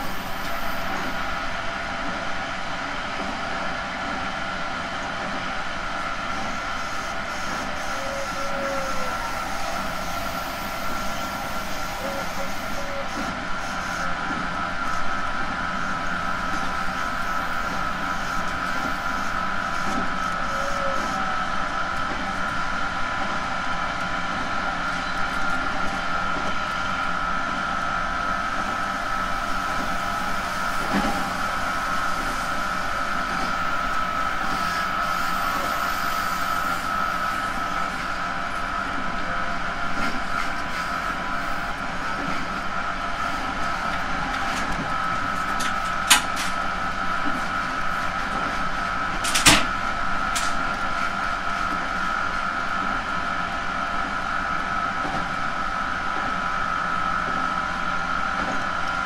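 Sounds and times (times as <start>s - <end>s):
electric train running on rails: 0.0s - 59.0s.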